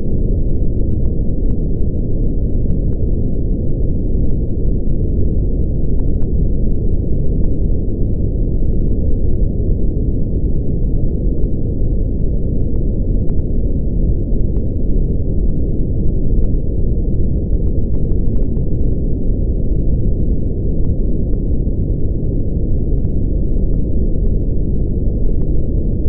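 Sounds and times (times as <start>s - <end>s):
brown noise rumble: 0.0s - 26.0s.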